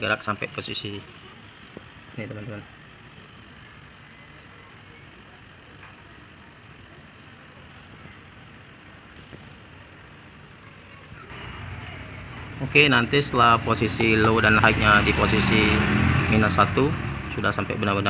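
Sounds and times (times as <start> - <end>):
compressor running: 0.0 - 18.0.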